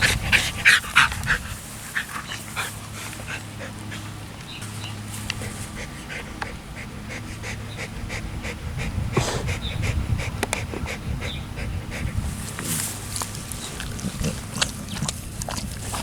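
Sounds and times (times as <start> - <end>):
dog panting: 0.0 - 4.6, 5.2 - 16.0.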